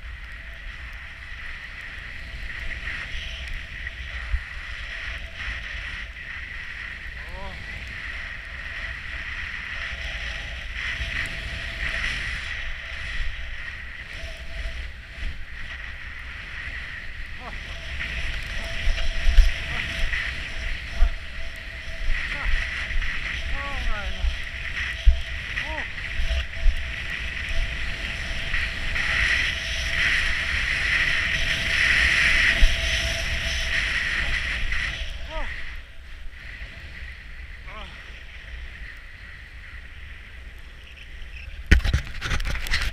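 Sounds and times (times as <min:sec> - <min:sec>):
wind rumbling on microphone: 0:00.0 - 0:42.9
skis hissing through snow: 0:00.1 - 0:42.9.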